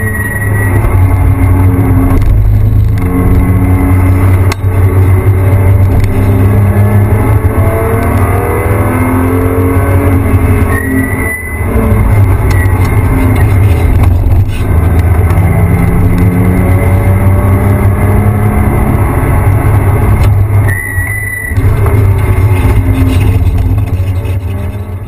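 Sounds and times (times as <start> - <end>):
car engine accelerating: 0.0 - 25.0
low rumble: 0.5 - 7.8, 10.2 - 17.6, 18.5 - 25.0.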